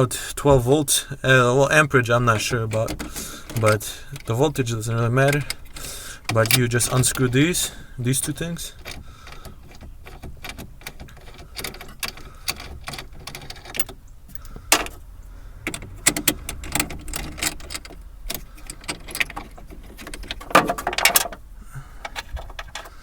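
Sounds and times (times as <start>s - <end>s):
wrench metallic clicks and knocks: 2.3s - 7.5s, 8.2s - 15.0s, 15.6s - 23.0s.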